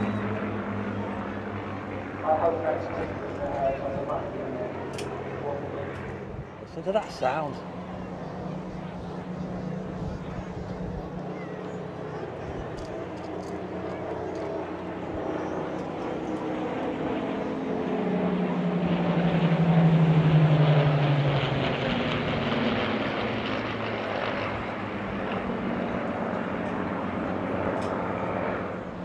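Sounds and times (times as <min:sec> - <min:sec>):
propeller aircraft flying past: 0:00.0 - 0:29.0.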